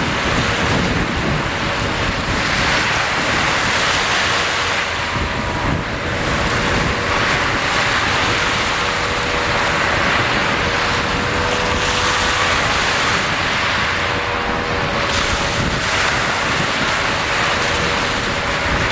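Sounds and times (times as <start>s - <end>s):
sea waves washing in: 0.0s - 18.9s
wind buffeting microphone: 0.0s - 18.9s.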